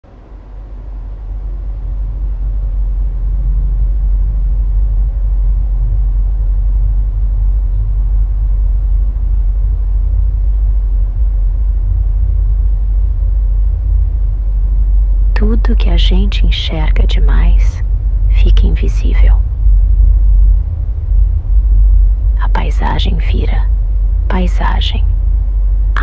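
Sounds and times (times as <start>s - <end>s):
deep low rumble: 0.0s - 26.0s.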